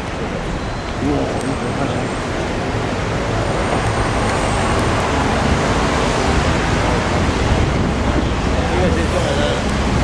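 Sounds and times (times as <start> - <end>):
bus engine: 0.0 - 10.0
road traffic: 0.0 - 10.0.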